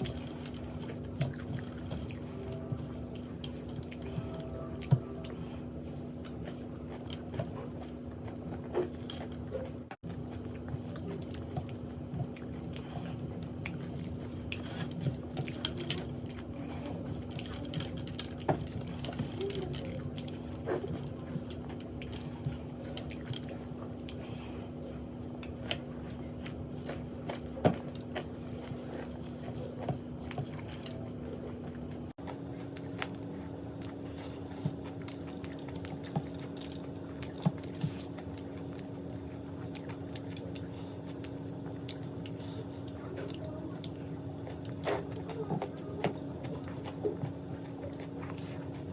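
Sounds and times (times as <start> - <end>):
chewing crunchy snacks: 0.0 - 48.9.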